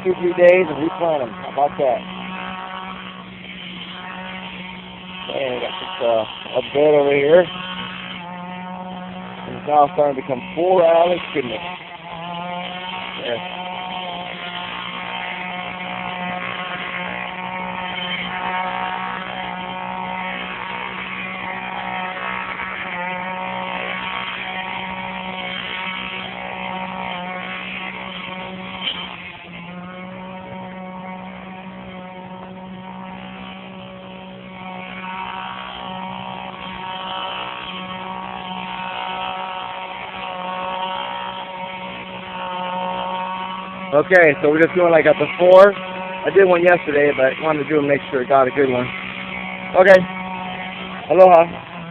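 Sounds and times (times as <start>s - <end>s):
small engine running: 0.0s - 51.9s.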